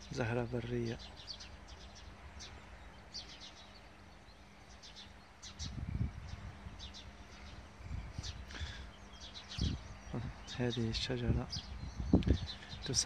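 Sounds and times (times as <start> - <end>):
faint outdoor background noise: 0.0 - 13.0
small birds chirping: 0.0 - 13.0.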